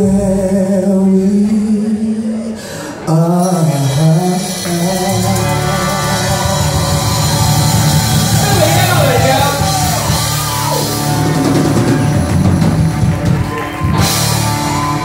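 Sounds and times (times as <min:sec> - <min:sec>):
person singing: 0:00.0 - 0:12.8
rock band playing: 0:02.7 - 0:15.0.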